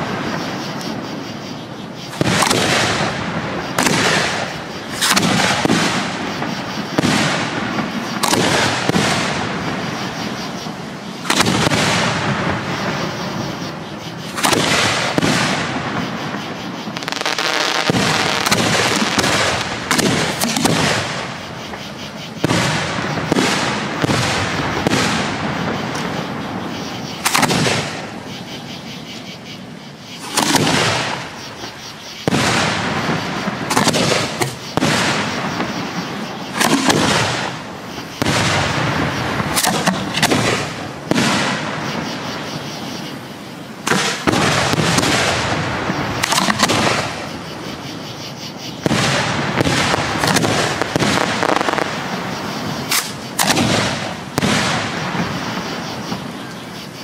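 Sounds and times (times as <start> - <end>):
fireworks bangs: 0.0 - 28.7, 29.6 - 57.0
fireworks crackling: 2.0 - 28.5, 29.6 - 48.1, 48.7 - 56.6.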